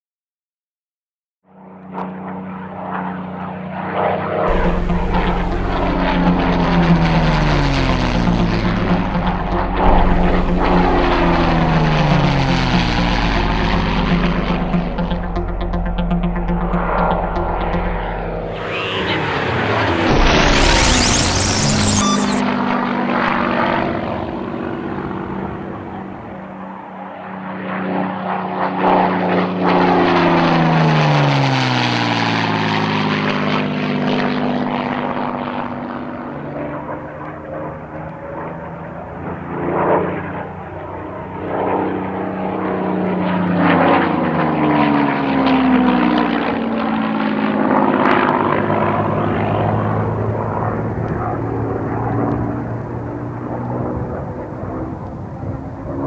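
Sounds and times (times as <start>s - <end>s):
propeller aircraft engine droning: 1.5s - 56.0s.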